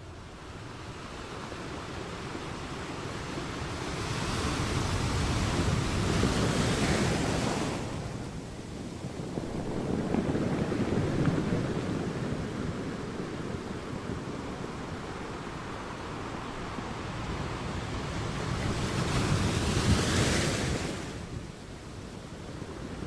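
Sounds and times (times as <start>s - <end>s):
sea waves washing in: 3.6s - 23.0s.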